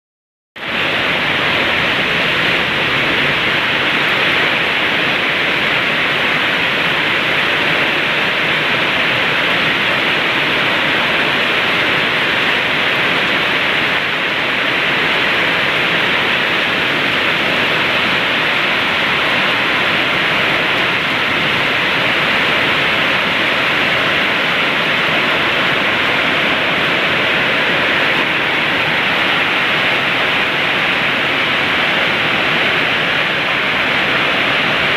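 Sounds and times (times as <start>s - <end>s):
heavy rain falling: 0.6s - 34.9s.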